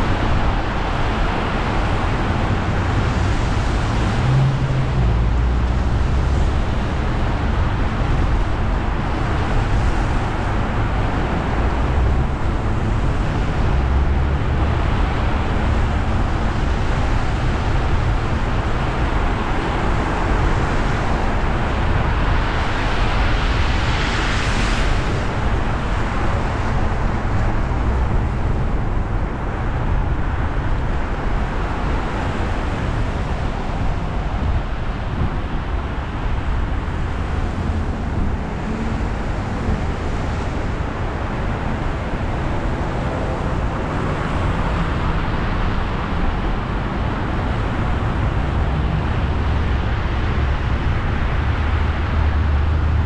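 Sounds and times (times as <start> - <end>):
low road rumble: 0.0 - 53.0.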